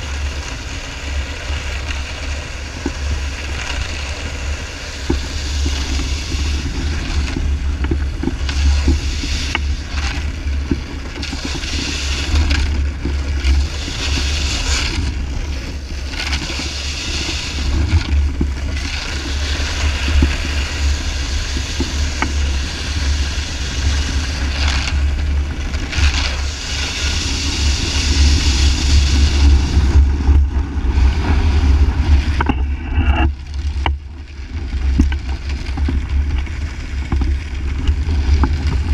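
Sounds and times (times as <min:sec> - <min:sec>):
snowboard sliding across ice: 0:00.0 - 0:38.9
wind buffeting microphone: 0:00.0 - 0:38.9.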